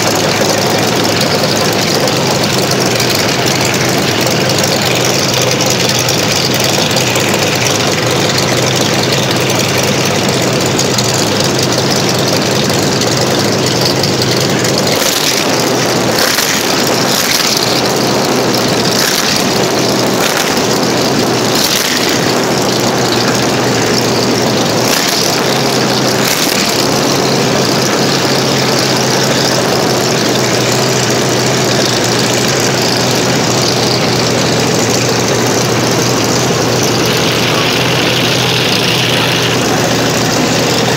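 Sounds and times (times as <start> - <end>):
radial aircraft engine running: 0.0 - 40.9.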